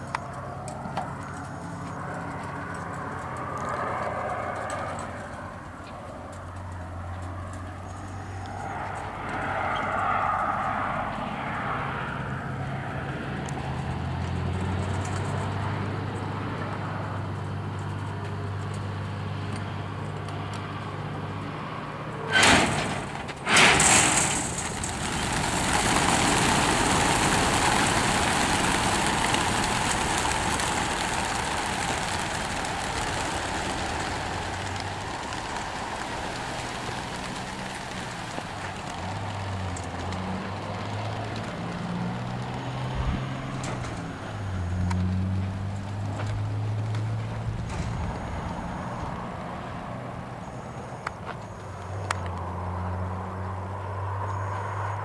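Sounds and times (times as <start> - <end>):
whirr of massed pigeon wingbeats: 0.0 - 21.8, 22.4 - 53.0
vehicle engine humming: 0.0 - 55.0.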